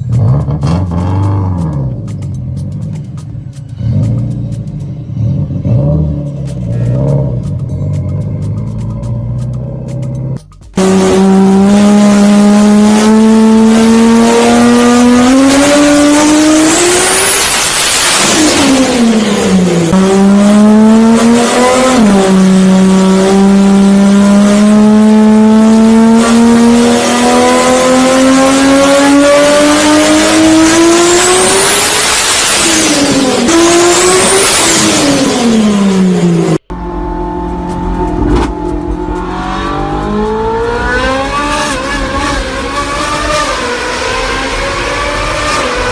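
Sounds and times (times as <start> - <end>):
car engine accelerating: 0.0 - 45.9
quieter engine revving: 0.0 - 45.9.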